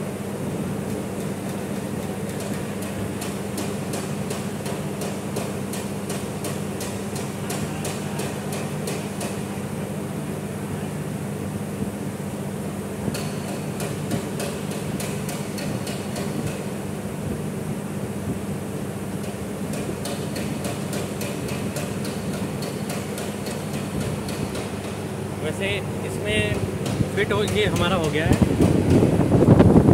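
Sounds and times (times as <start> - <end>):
low workshop hum: 0.0 - 29.9.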